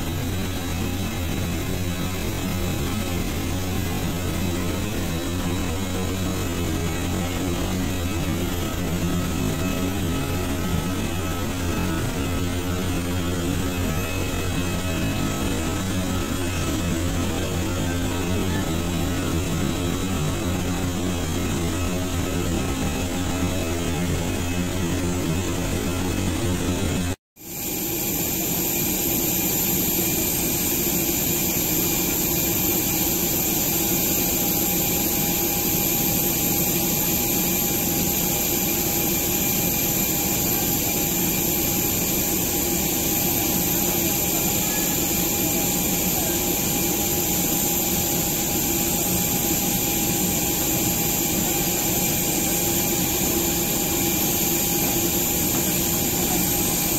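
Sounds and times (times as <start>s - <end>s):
jet engine running: 0.0s - 56.9s.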